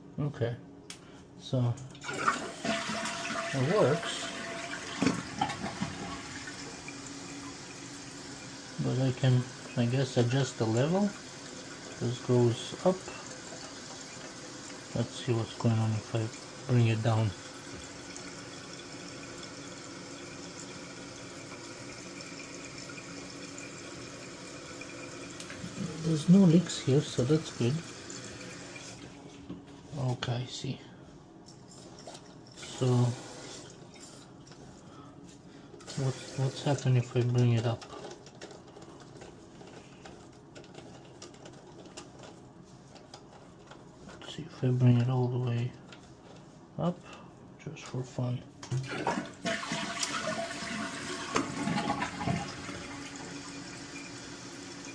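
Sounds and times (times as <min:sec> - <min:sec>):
water running into toilet tank: 0:01.9 - 0:29.3, 0:31.7 - 0:34.8, 0:35.6 - 0:46.5, 0:48.2 - 0:54.9.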